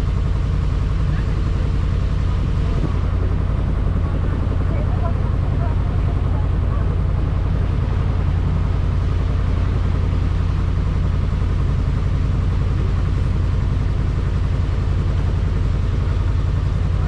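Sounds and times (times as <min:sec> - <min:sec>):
boat engine throbbing: 0:00.0 - 0:17.0.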